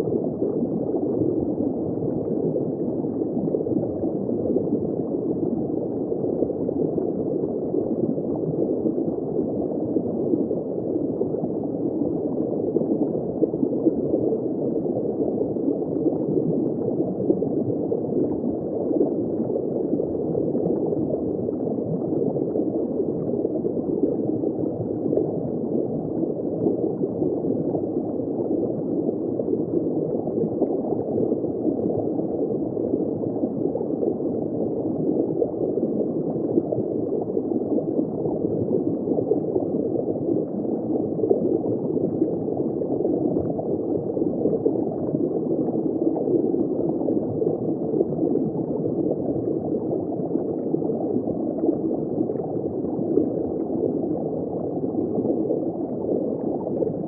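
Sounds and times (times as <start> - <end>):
underwater bubbling and gurgling: 0.0 - 57.0.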